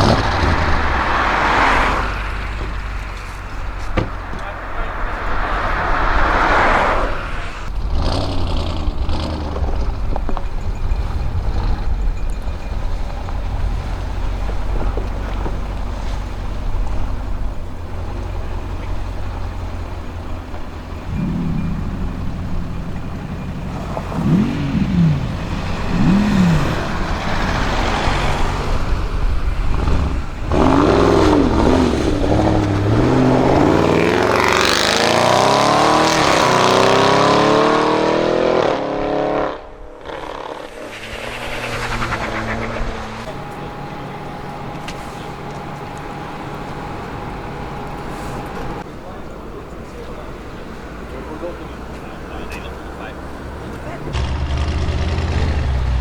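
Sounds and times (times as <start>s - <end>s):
car engine revving and accelerating: 0.0s - 48.9s, 50.0s - 56.0s.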